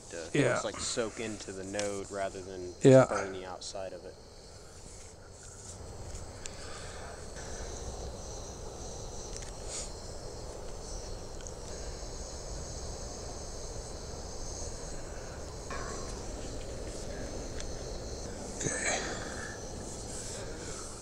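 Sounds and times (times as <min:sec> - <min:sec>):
continuous low rumble: 0:00.0 - 0:21.0
high-pitched insect chorus: 0:00.0 - 0:21.0.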